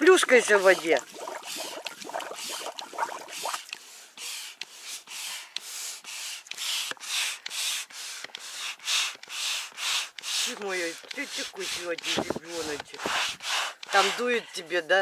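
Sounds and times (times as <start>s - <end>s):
manual air pump puffing: 0.0s - 14.8s.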